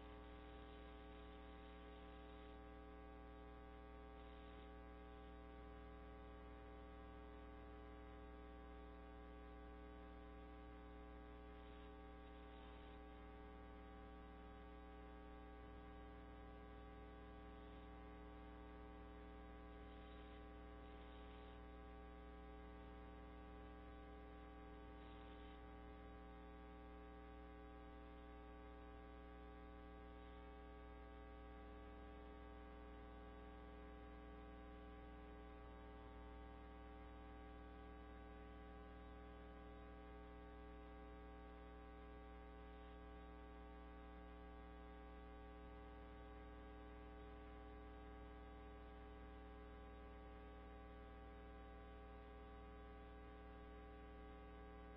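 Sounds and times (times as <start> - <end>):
electrical mains hum: 0.0 - 54.9.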